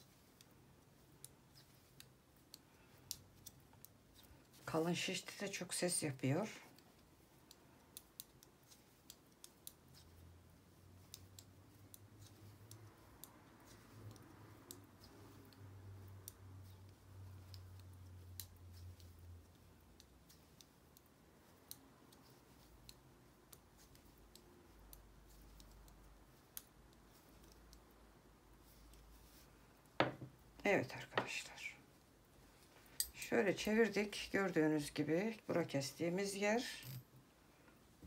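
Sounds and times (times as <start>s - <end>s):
knitting needles clicking: 0.0s - 37.3s.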